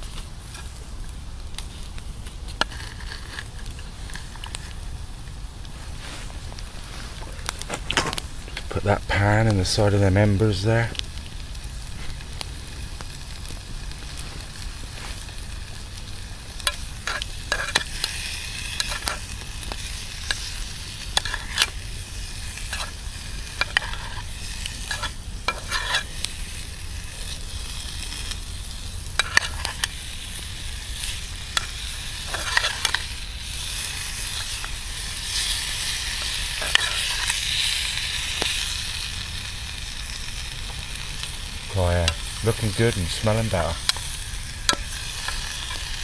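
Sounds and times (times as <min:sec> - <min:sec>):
fat popping and crackling: 0:00.0 - 0:46.0
fat sizzling in a pan: 0:00.0 - 0:46.0.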